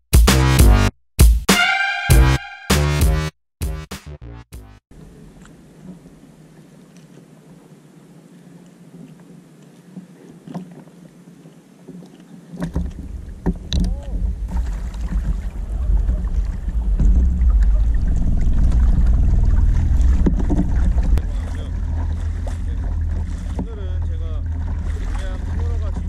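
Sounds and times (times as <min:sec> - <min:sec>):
water washing against kayak hull: 0:04.9 - 0:26.0
wind rumbling on microphone: 0:04.9 - 0:26.0.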